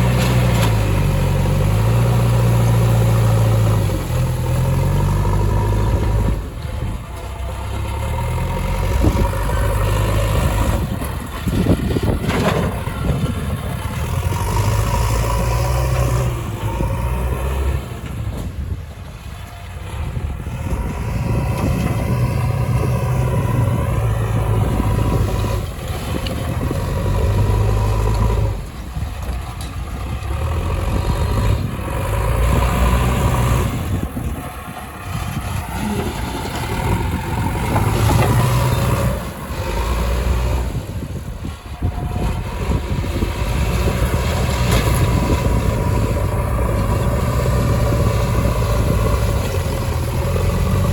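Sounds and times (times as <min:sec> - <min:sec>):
heavy diesel machinery engines: 0:00.0 - 0:50.9.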